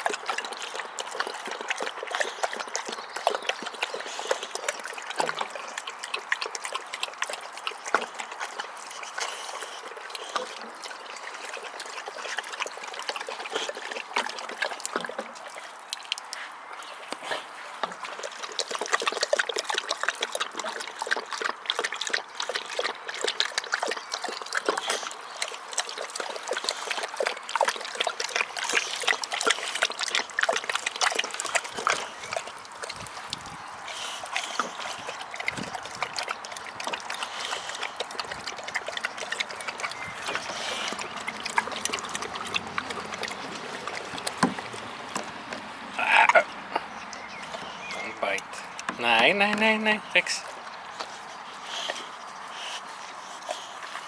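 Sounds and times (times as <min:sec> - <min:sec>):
running water trickling and splashing: 0:00.0 - 0:54.0.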